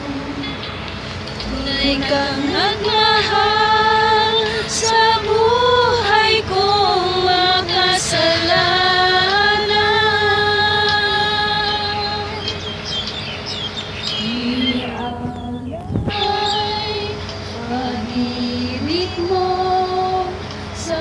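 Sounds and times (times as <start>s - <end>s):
women singing worship song: 0.0s - 12.9s, 14.0s - 21.0s.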